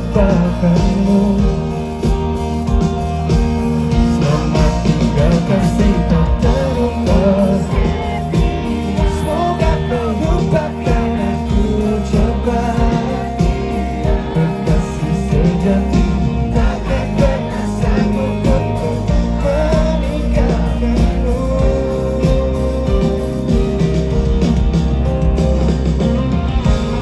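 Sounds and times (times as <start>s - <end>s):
bass: 0.0s - 27.0s
drums: 0.0s - 27.0s.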